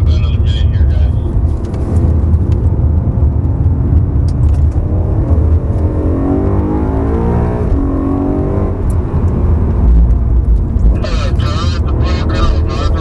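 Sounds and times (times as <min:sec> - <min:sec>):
car engine at full throttle: 0:00.0 - 0:13.0
road and wind noise rumble: 0:00.0 - 0:13.0.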